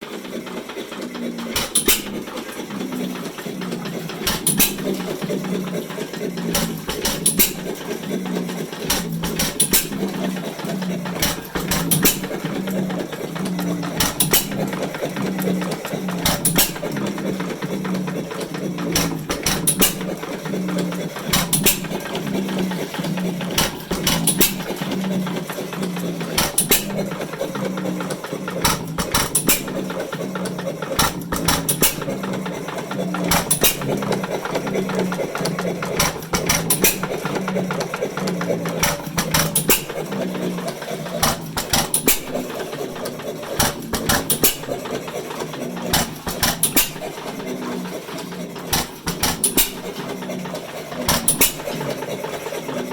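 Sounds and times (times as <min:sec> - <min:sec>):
engine knocking: 0:00.0 - 0:52.9.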